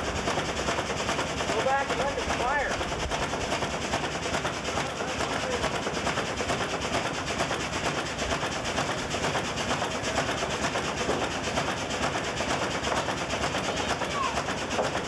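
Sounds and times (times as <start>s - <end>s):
steam engine chuffing and clanking: 0.0s - 15.0s.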